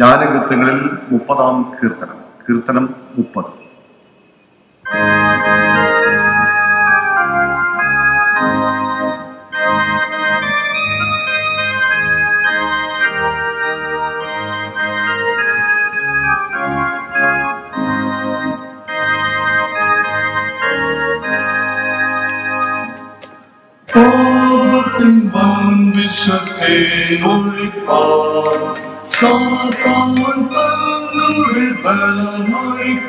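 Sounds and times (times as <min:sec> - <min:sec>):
organ playing hymn chords: 0:04.8 - 0:33.0.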